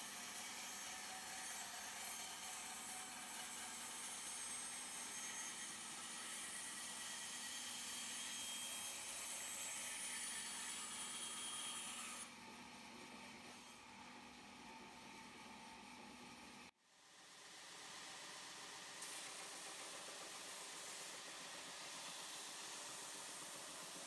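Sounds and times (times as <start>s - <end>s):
woodworking machinery whirring: 0.0s - 16.0s, 17.8s - 24.0s.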